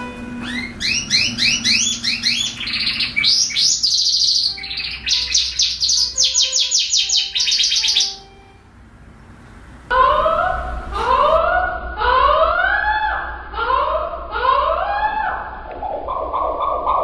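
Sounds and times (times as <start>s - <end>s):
canary singing: 0.0s - 8.7s, 9.4s - 17.0s.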